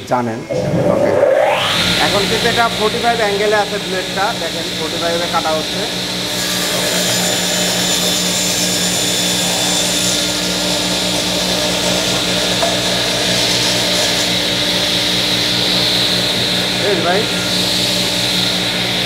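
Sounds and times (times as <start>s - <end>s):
circular saw cutting wood: 0.5s - 19.0s.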